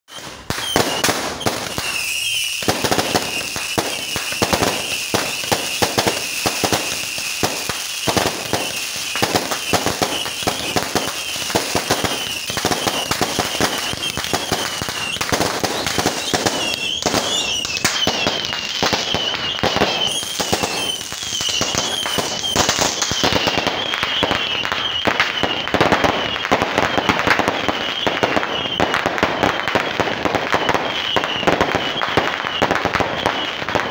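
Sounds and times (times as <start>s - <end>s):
fireworks bangs and crackles: 0.1s - 33.9s.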